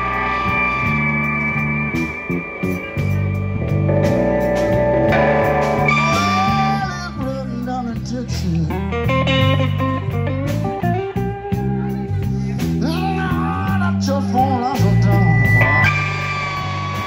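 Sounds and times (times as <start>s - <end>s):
bass guitar: 0.0s - 17.0s
drums: 0.0s - 17.0s
electric guitar lead: 0.0s - 17.0s.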